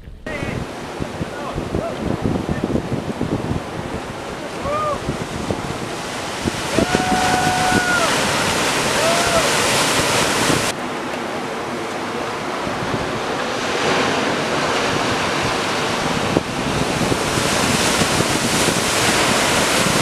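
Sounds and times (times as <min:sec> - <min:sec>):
wind: 0:00.0 - 0:20.0
waves: 0:00.3 - 0:20.0.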